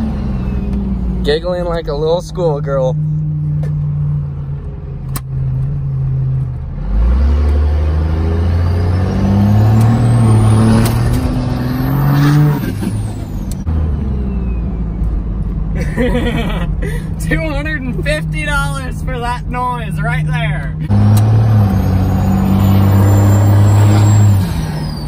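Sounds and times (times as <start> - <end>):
diesel engine accelerating: 0.0 - 25.0.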